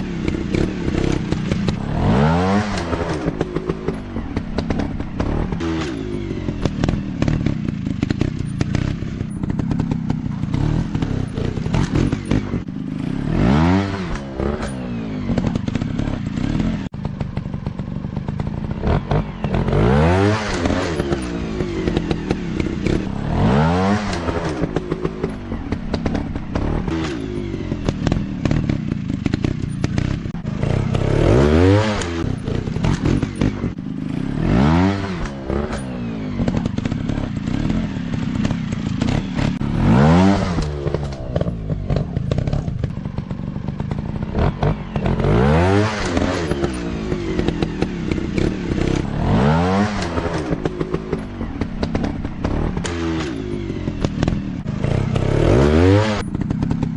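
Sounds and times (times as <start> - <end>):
dirt bike engines revving: 0.0 - 56.9.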